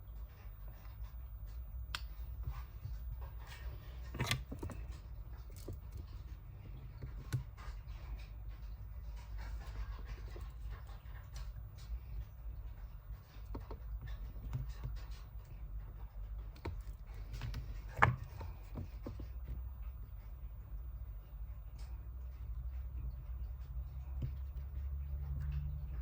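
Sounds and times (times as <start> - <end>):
steady low hum: 0.0 - 26.0
handling clicks and taps: 1.9 - 19.6, 21.7 - 25.7.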